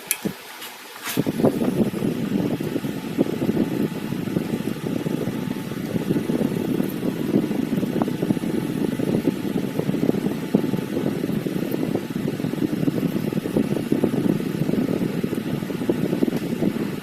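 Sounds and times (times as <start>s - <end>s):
crackly low rumble: 1.2s - 17.0s.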